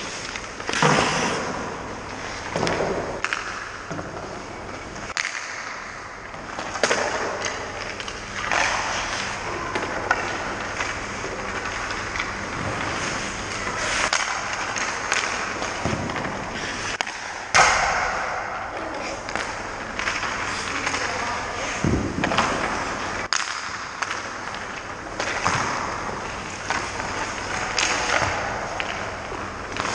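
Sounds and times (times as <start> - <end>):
skates scraping on ice: 0.0 - 17.5, 18.8 - 29.9
hockey sticks and pucks knocking: 0.0 - 29.9.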